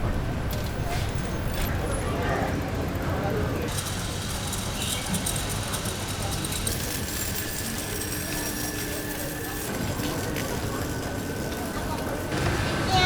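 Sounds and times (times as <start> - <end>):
trolley wheels rattling: 0.6 - 13.0.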